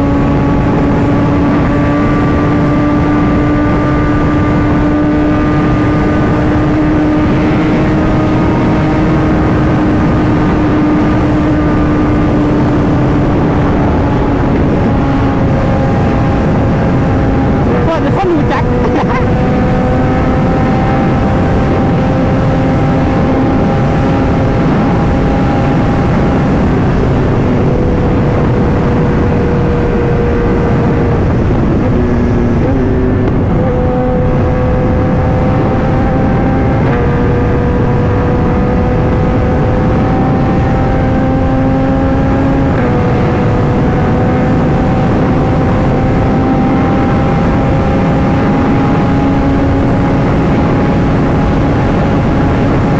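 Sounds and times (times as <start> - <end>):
motorcycle engine running: 0.0 - 52.9
wind noise on microphone: 0.0 - 52.9.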